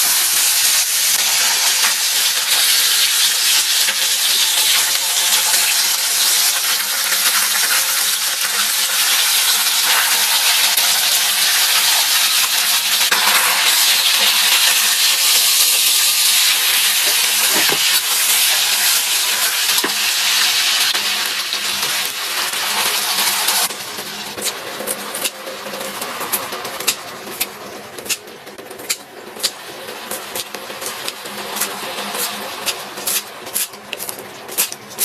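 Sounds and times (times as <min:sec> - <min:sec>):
food sizzling in hot oil: 0:00.0 - 0:28.2, 0:28.9 - 0:35.0.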